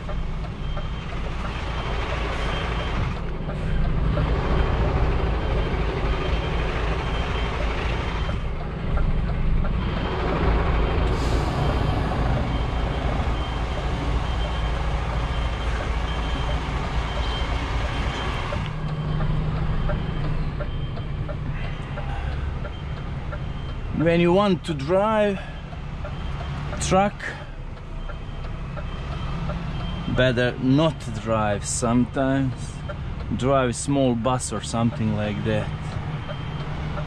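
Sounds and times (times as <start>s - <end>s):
diesel truck engine running: 0.0s - 37.0s
reversing alarm beeping: 0.0s - 37.0s.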